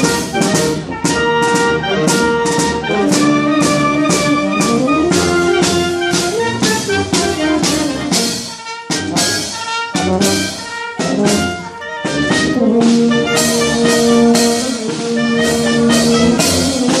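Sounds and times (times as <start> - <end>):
brass band playing: 0.0 - 17.0
snare and bass drum: 0.0 - 17.0.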